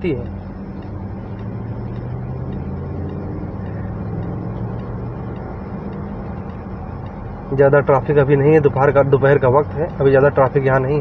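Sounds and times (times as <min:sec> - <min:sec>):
car engine low hum: 0:00.0 - 0:11.0
tyre and road rumble: 0:00.0 - 0:11.0.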